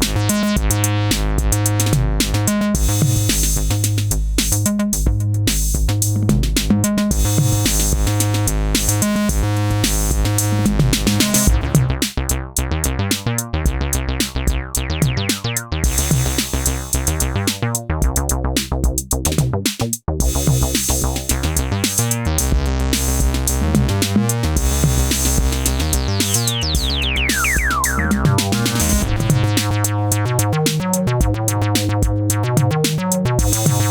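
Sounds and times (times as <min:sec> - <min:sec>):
drum machine beat: 0:00.0 - 0:33.9
synthesizer bass line: 0:00.0 - 0:33.9.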